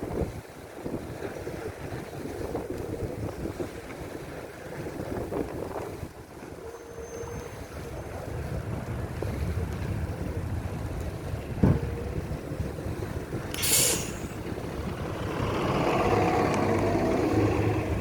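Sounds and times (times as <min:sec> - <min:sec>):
constant low rumble: 0:00.0 - 0:18.0
wind buffeting microphone: 0:00.0 - 0:18.0.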